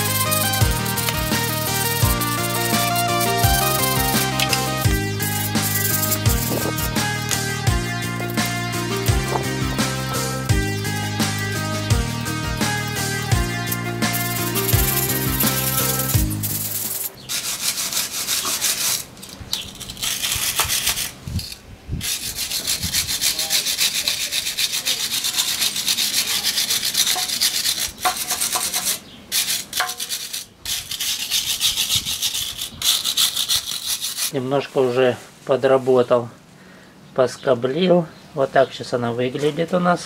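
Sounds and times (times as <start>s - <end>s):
wire brush scrubbing metal: 0.0s - 34.6s.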